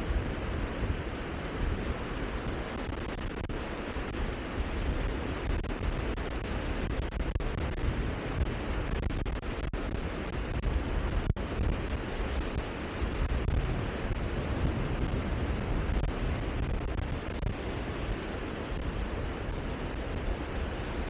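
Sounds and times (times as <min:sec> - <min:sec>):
sea rushing: 0:00.0 - 0:21.0
wind buffeting microphone: 0:00.0 - 0:21.0.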